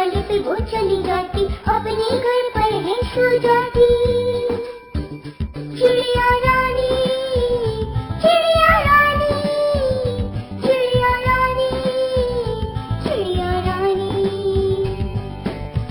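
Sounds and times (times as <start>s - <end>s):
high voice singing long notes: 0.0s - 15.4s
backing track with steady beat: 0.0s - 15.9s.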